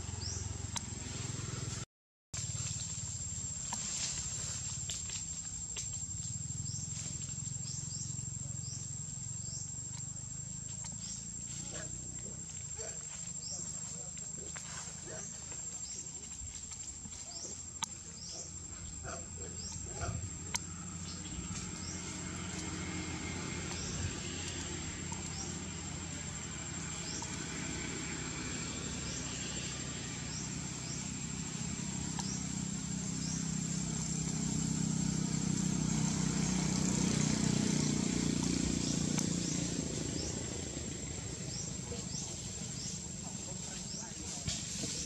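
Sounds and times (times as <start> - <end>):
vehicle engine hum: 0.0 - 45.0.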